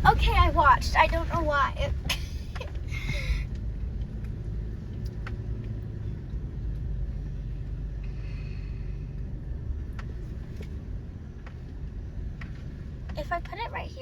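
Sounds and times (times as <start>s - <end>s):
engine and drivetrain rumble: 0.0s - 14.0s.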